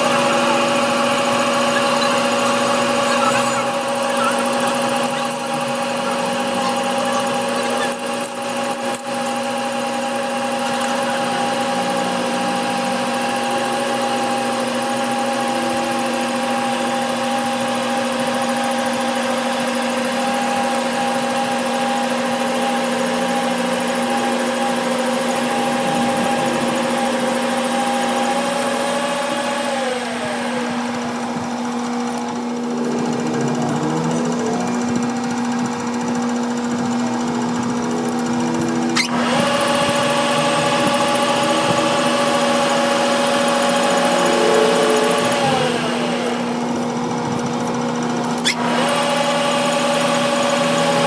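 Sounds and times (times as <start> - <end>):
electric machine humming: 0.0 - 51.0.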